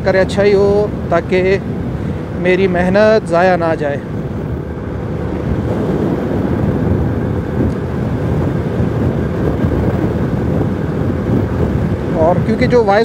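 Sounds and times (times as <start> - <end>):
road noise rumble: 0.0 - 13.0
wind rushing over microphone: 0.0 - 13.0.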